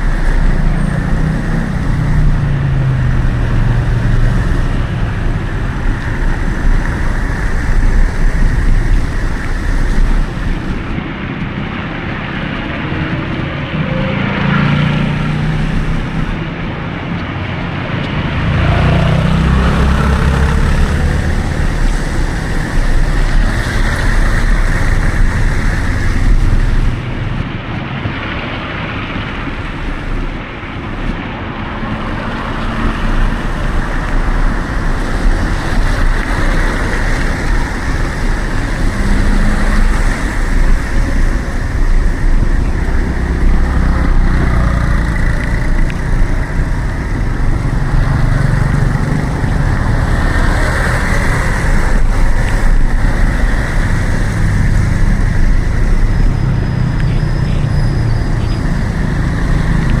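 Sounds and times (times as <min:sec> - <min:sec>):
low engine drone: 0:00.0 - 1:00.0
road noise: 0:00.0 - 1:00.0
vehicle engines running: 0:00.0 - 1:00.0.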